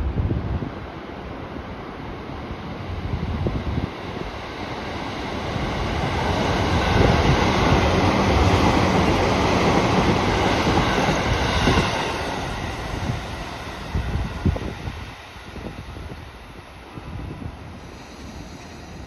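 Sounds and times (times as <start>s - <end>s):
train wheels on rails: 2.9s - 19.0s.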